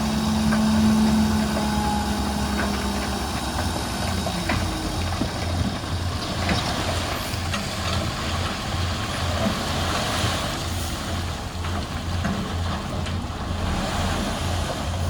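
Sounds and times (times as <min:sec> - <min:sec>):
heavy diesel engine rumbling: 0:00.0 - 0:15.0.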